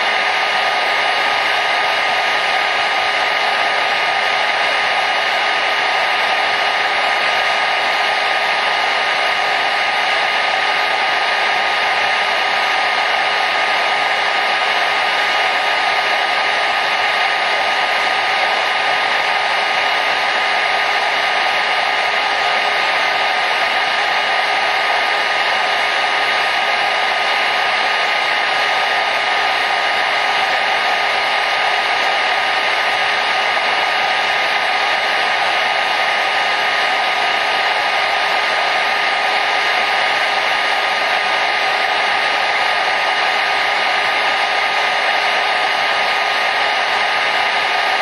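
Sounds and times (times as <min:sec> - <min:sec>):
hair dryer running: 0:00.0 - 0:48.0.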